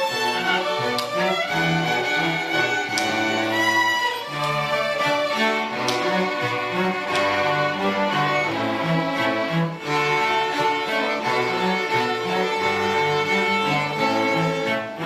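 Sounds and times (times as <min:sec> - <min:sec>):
bowed strings: 0:00.0 - 0:15.0
school orchestra playing: 0:00.0 - 0:15.0.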